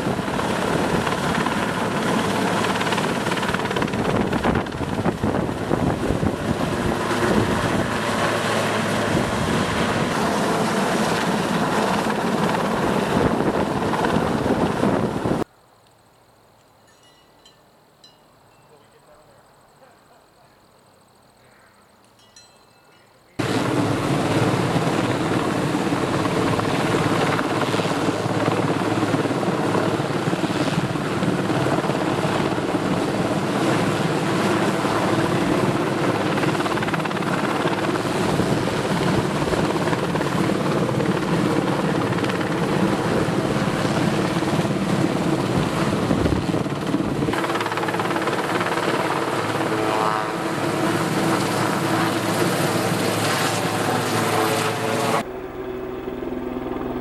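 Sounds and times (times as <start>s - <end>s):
helicopter rotor and engine: 0.0s - 15.5s, 23.4s - 57.0s.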